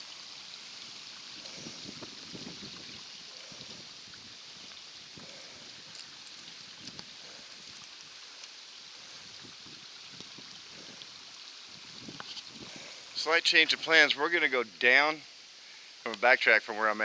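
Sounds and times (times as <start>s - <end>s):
rushing waterfall: 0.0s - 17.0s.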